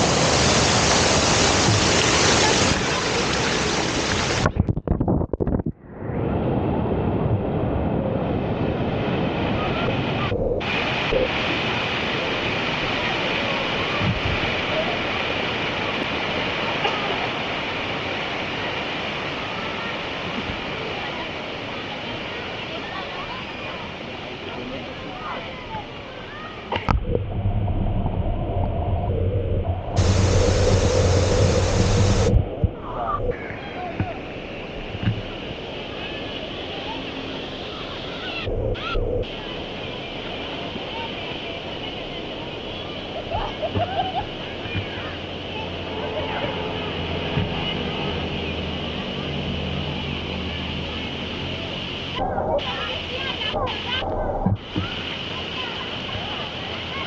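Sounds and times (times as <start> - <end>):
waterfall rushing: 0.0 - 4.6, 8.2 - 57.0.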